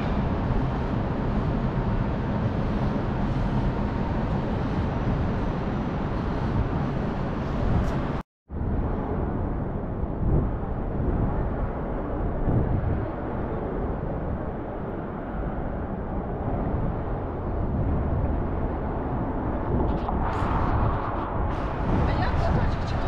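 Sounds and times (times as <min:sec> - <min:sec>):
low rumble of road traffic: 0:00.0 - 0:23.0.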